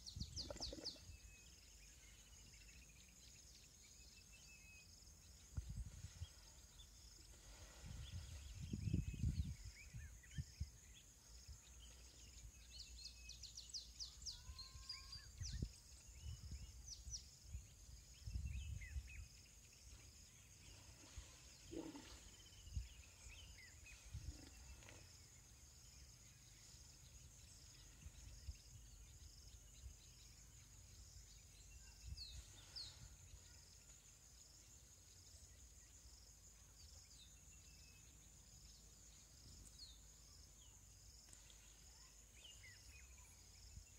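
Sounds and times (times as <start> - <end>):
insects buzzing: 0.2 - 43.9.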